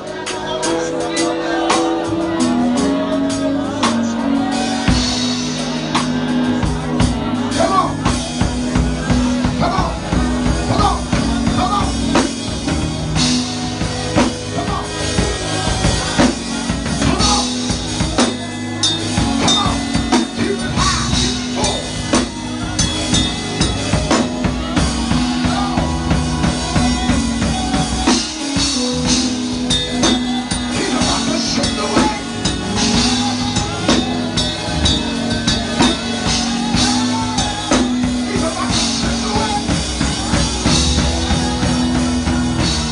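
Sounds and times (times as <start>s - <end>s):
church band playing: 0.0s - 42.9s
drum kit beat: 0.0s - 42.9s.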